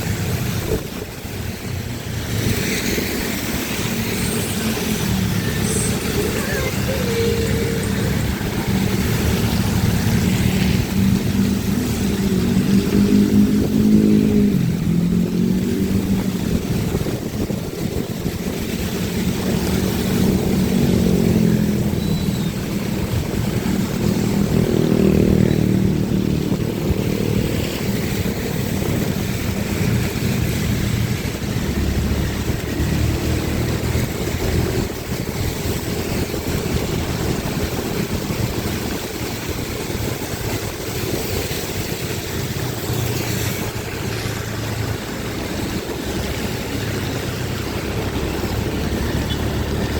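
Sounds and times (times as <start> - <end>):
motorcycle engine revving: 0.0 - 49.9
wet road and wind hiss: 0.0 - 49.9.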